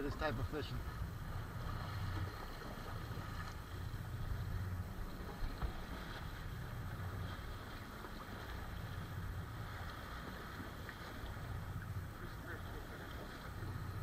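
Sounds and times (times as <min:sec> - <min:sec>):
boat engine idling: 0:00.0 - 0:14.0
water noise: 0:00.0 - 0:14.0
wind: 0:00.0 - 0:14.0.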